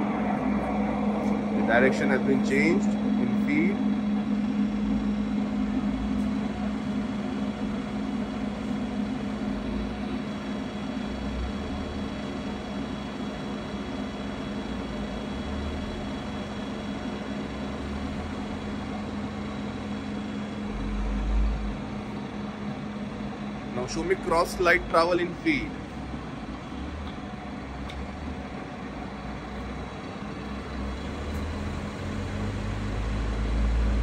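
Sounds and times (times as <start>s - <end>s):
lathe motor humming: 0.0s - 34.0s.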